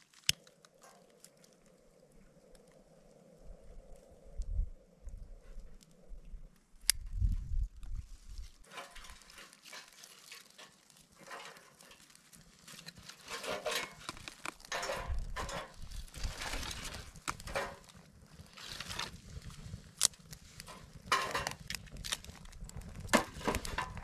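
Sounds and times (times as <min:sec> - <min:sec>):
twigs rustling in metal stove: 0:00.0 - 0:04.2, 0:05.1 - 0:24.0
dry twigs snapping and crunching: 0:00.0 - 0:24.0.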